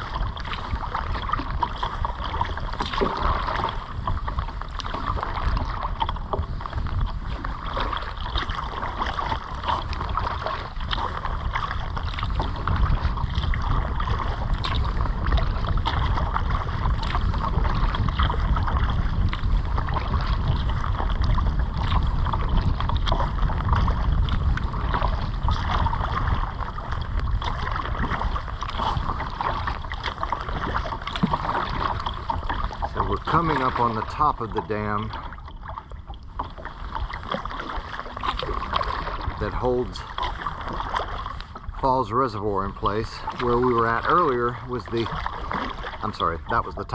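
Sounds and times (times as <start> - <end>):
water splashing around kayak: 0.0 - 46.9
wind rumbling on microphone: 0.0 - 46.9.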